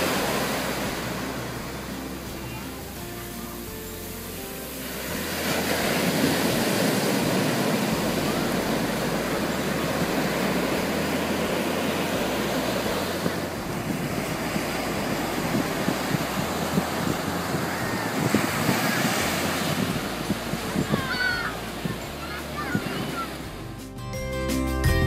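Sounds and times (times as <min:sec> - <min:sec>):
waves breaking on sand: 0:00.0 - 0:23.6
wind rumbling on microphone: 0:00.0 - 0:23.7.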